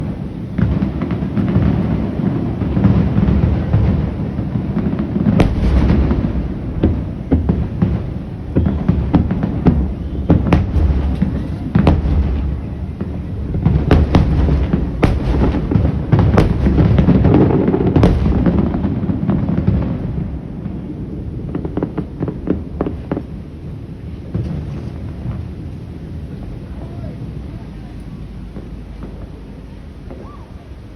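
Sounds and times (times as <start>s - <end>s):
continuous rumble: 0.0s - 30.9s
fireworks booming and cracking: 0.0s - 30.9s
fireworks crackling: 0.0s - 30.9s.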